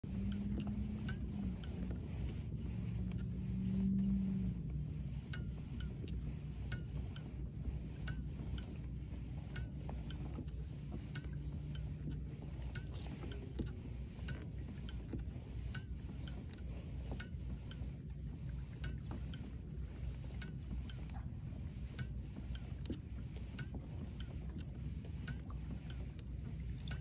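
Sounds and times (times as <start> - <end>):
low rumble of propeller drive: 0.0 - 27.0
sharp irregular clicks: 0.0 - 27.0.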